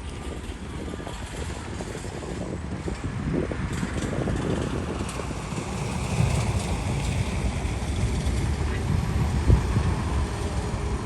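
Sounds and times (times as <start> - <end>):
heavy machinery diesel engine rumble: 0.0 - 11.0.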